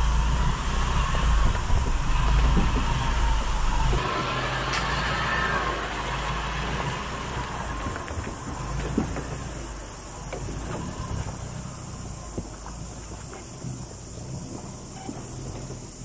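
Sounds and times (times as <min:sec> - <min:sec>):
van engine running: 0:00.0 - 0:16.0.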